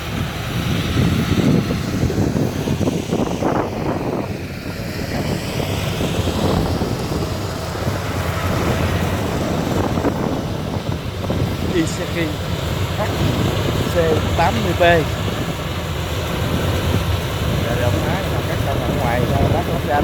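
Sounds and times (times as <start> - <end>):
combine harvester running: 0.0 - 20.0.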